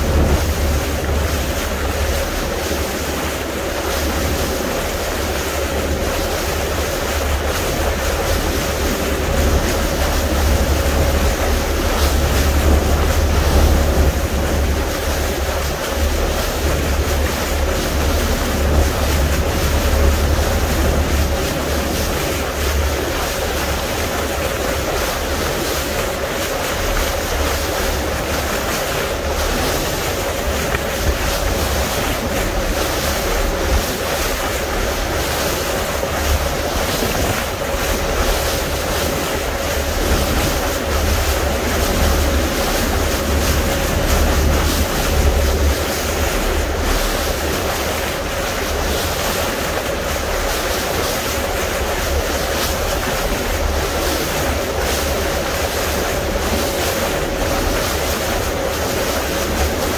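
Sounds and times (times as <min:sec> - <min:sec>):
boat engine hum: 0:00.0 - 0:59.9
water rushing along hull: 0:00.0 - 0:59.9
wind buffeting microphone: 0:00.0 - 0:59.9.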